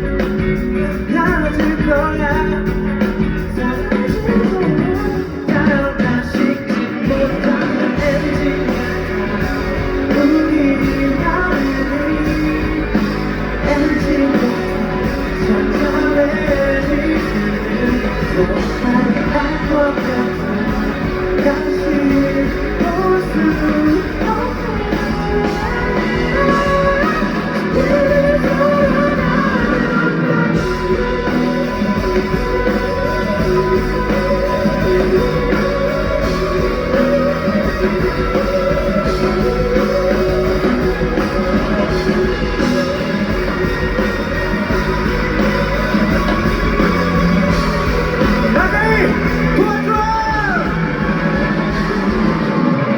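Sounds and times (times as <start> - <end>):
electric guitar: 0.0 - 52.9
person singing: 0.0 - 52.9
rock band playing live: 0.0 - 52.9.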